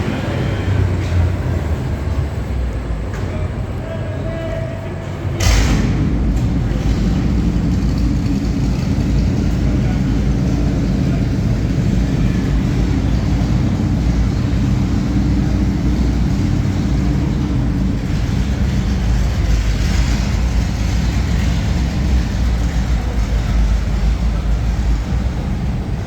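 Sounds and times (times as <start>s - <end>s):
car engine rumbling: 0.0s - 26.0s.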